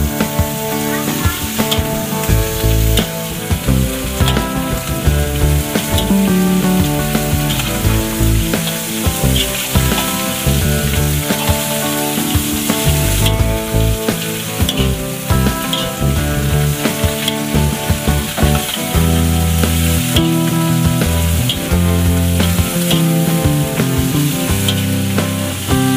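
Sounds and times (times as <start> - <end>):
background music with bass: 0.0 - 25.9.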